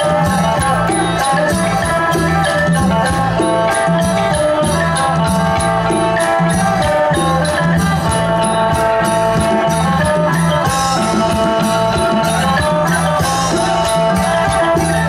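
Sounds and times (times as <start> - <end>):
folk band melody notes: 0.0 - 15.0
steady percussion beat: 0.0 - 15.0.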